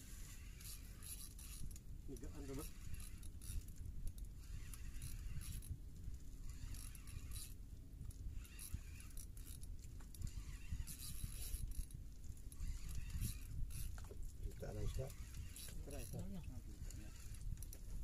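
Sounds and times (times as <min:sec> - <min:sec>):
fishing reel cranking: 0:00.2 - 0:05.8, 0:06.4 - 0:18.0.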